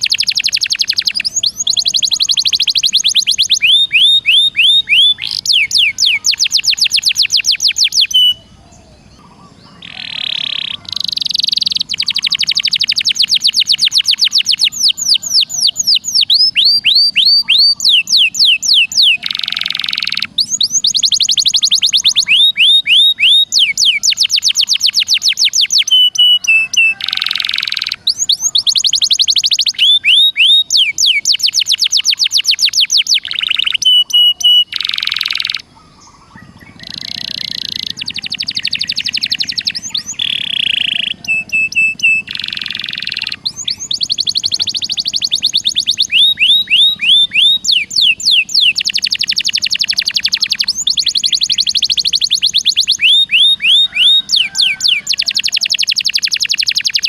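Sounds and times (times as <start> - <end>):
harsh buzzy bird notes: 0.0 - 57.0
songbird trills: 0.0 - 57.0.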